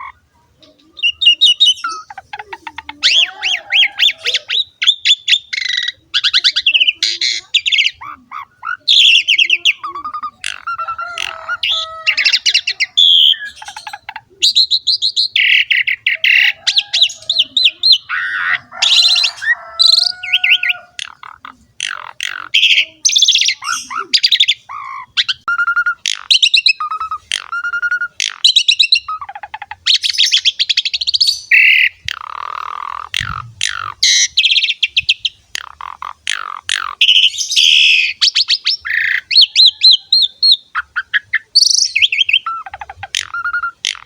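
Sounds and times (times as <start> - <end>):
starling singing: 0.0 - 44.0.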